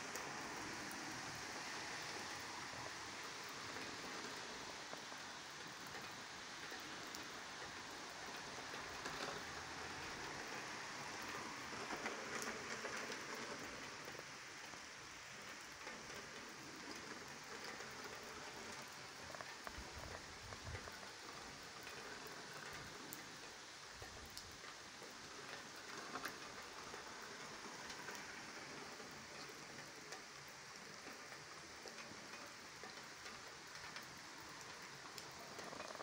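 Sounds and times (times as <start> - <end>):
rain falling on pavement: 0.0 - 36.0.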